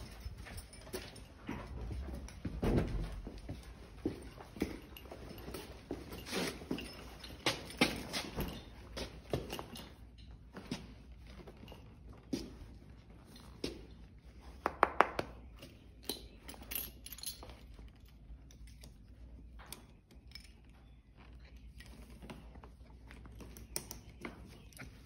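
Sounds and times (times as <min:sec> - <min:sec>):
metal buckles clinking and rattling: 0:00.0 - 0:14.5, 0:15.4 - 0:25.0.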